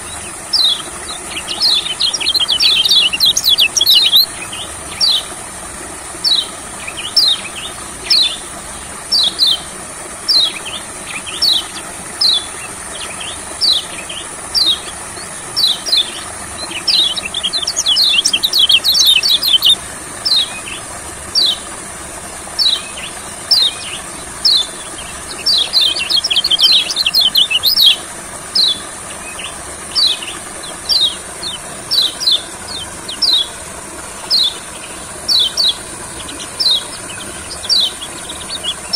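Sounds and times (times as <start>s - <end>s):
bird calling and twittering: 0.0s - 38.9s.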